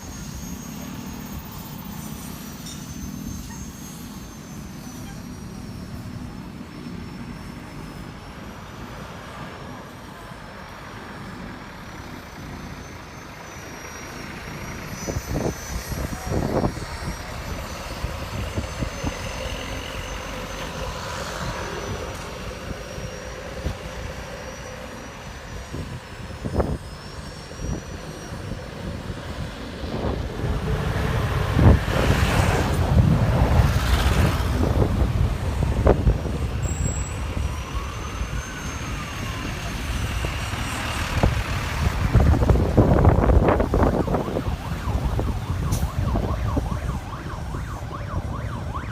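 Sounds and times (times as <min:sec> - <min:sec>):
heavy road traffic: 0:00.0 - 0:48.9.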